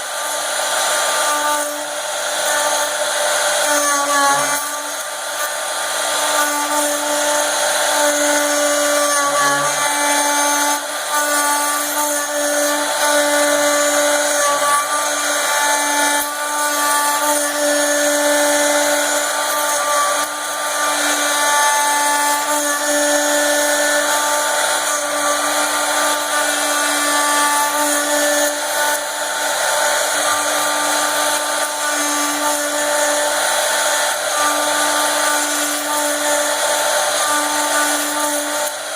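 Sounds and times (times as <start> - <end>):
router cutting noise: 0.0 - 38.9.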